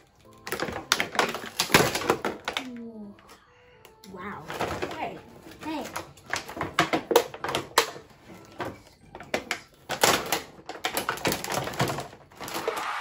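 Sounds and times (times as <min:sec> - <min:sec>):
plastic packaging crackling: 0:00.0 - 0:12.8
plastic parts clicking: 0:00.0 - 0:12.8.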